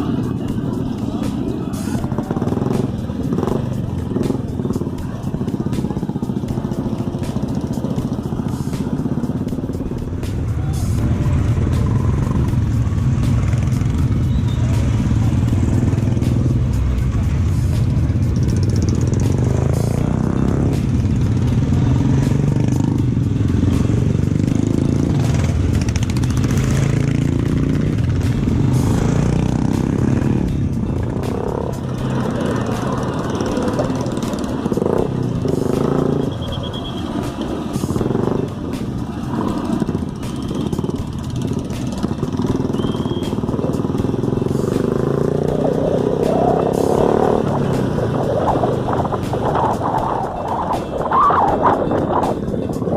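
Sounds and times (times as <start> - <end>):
motorcycle engines running: 0.0 - 52.9
music: 0.0 - 52.9.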